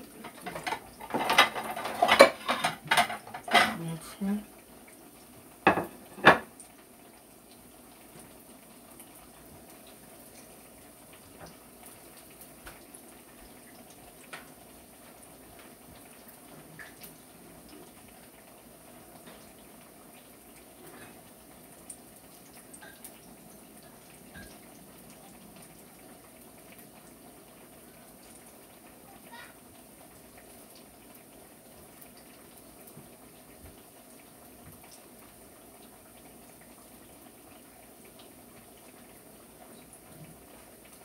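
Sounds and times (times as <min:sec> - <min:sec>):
oil frying hiss: 0:00.0 - 0:41.0.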